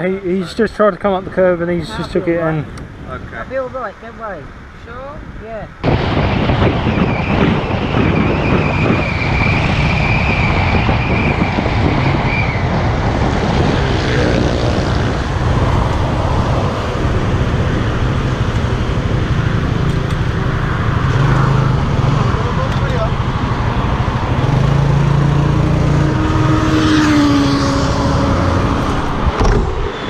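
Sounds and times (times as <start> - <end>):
road and wind noise: 0.0 - 30.0
surrounding traffic: 0.0 - 30.0.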